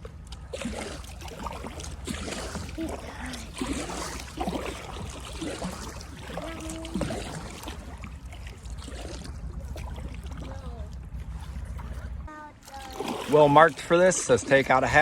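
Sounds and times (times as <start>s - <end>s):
steady low rumble: 0.0s - 12.9s
river water running and trickling: 0.0s - 15.0s.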